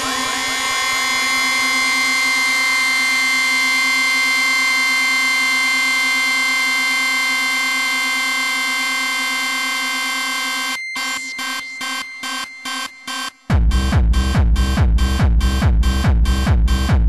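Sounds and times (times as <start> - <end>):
buzzy synthesizer chord: 0.0 - 17.0.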